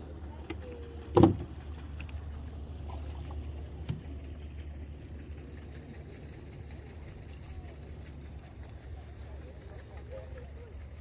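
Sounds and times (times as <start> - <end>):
faint water sounds: 0.0 - 11.0.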